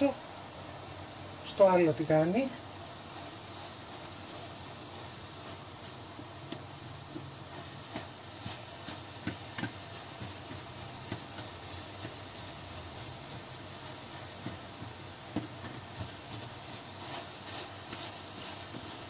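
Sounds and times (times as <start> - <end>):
meat and onion sizzling in a pan: 0.0 - 19.0
spatula scraping and tapping pan: 2.5 - 19.0.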